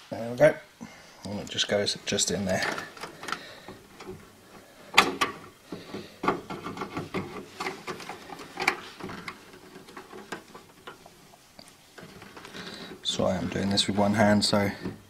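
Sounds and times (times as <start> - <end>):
cables rustling and rubbing: 1.3 - 15.0.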